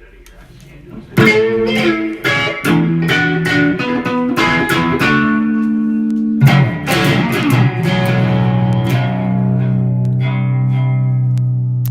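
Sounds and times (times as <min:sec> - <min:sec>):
guitar playing blues riff: 0:01.2 - 0:11.9.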